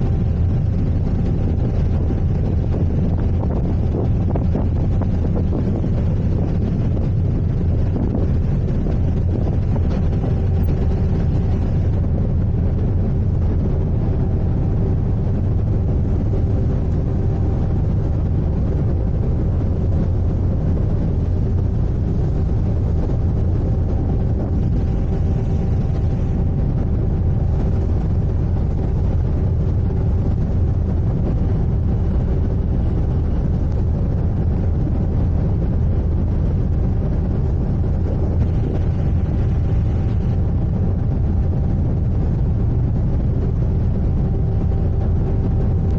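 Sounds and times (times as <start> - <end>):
faint constant hum: 0.0 - 45.9
ship engines rumbling: 0.0 - 45.9.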